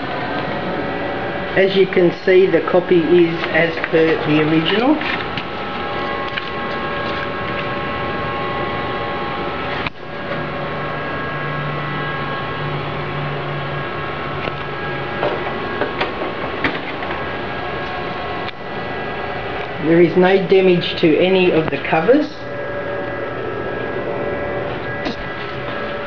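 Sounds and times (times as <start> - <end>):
copier fans and motors whirring: 0.0 - 26.0
low hum: 0.0 - 26.0.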